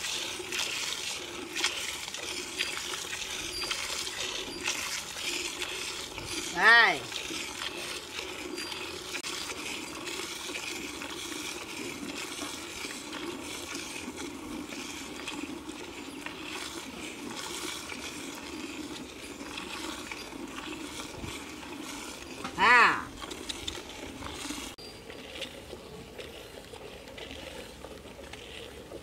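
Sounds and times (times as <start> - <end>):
milk squirting into pail: 0.0 - 29.0.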